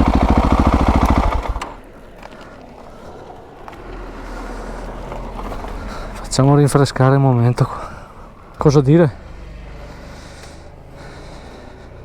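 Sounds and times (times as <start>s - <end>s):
faint wind rumble: 0.0s - 12.0s
motorcycle engine idling: 0.0s - 12.0s.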